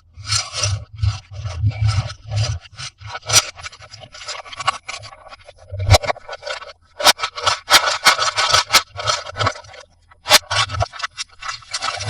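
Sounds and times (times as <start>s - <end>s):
plastic packaging scraping and crackling: 0.2s - 12.0s.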